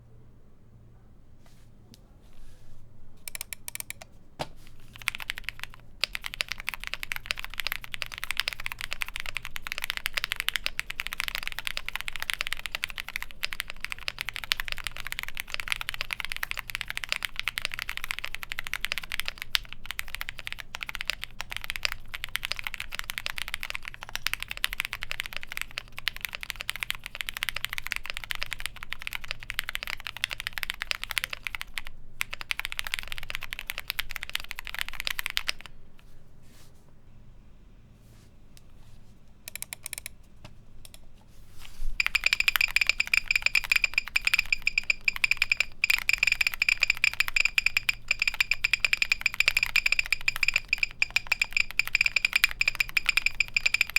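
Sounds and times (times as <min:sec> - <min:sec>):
mechanical keyboard typing: 0:03.3 - 0:04.1, 0:04.8 - 0:35.8, 0:39.5 - 0:40.2, 0:42.0 - 0:53.9.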